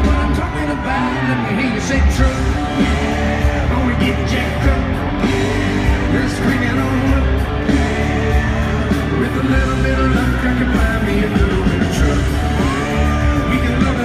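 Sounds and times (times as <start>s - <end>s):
live country-rock band: 0.0s - 14.0s
man singing: 0.0s - 14.0s.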